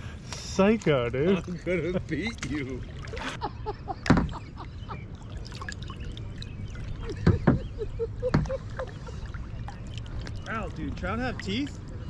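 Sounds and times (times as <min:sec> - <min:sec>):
low steady rumble: 0:01.0 - 0:12.0.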